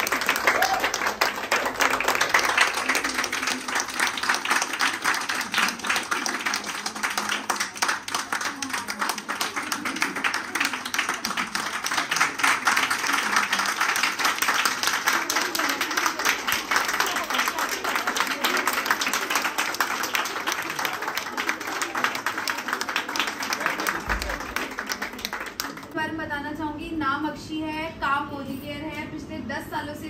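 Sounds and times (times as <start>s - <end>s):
people clapping: 0.0s - 26.1s.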